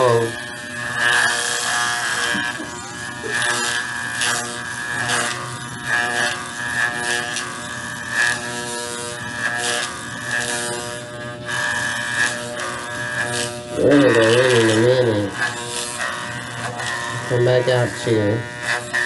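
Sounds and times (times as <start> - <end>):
clipper blade rasping through hair: 0.0 - 19.0
electric clippers humming: 0.0 - 19.0.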